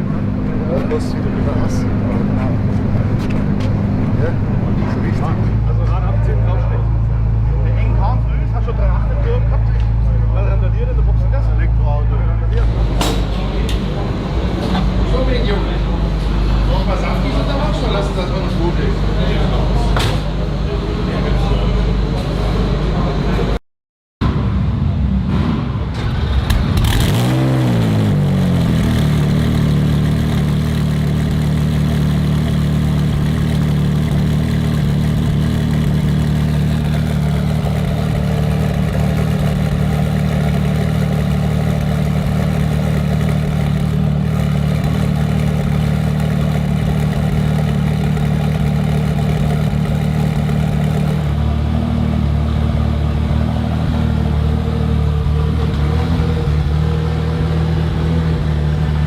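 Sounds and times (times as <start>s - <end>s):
race car engine revving and idling: 0.0s - 23.6s, 24.2s - 59.0s.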